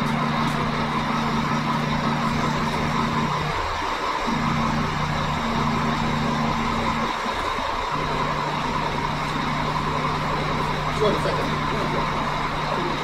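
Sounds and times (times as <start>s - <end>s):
air compressor pumping: 0.0s - 13.0s
diesel engine idling: 0.0s - 13.0s.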